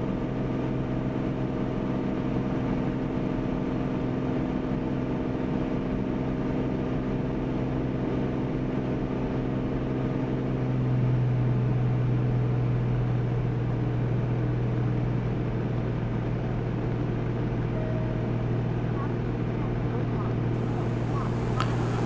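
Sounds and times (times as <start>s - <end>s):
aircraft engine and propeller drone: 0.0s - 22.0s.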